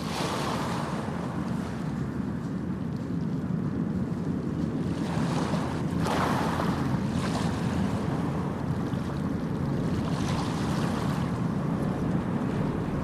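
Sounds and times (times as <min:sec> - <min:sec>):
sea waves washing on sand: 0:00.0 - 0:02.5, 0:04.6 - 0:13.0.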